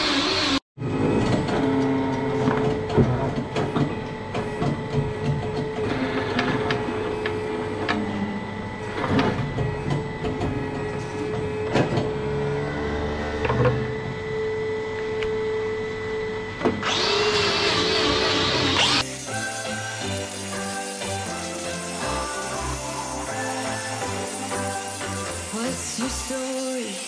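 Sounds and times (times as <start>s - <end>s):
machine hum: 0.0s - 26.4s.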